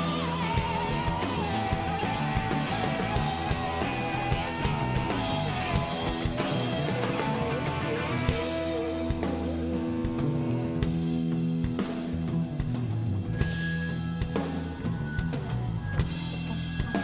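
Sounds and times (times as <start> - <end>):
rock band playing: 0.0 - 17.0
sustained wavering lead guitar: 0.0 - 17.0.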